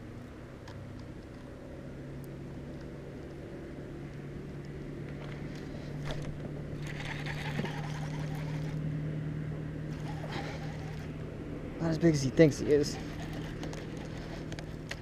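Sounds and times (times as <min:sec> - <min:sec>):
boat motor humming: 0:02.9 - 0:15.0.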